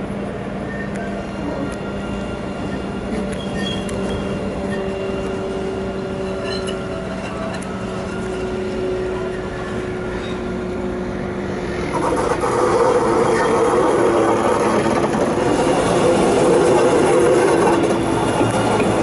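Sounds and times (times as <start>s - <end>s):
tram humming on rails: 0.0s - 19.0s.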